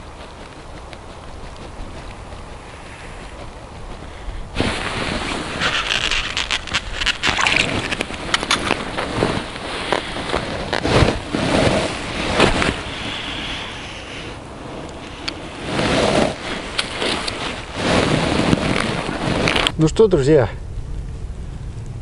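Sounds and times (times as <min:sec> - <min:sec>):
clothing rustling against microphone: 0:01.0 - 0:19.8.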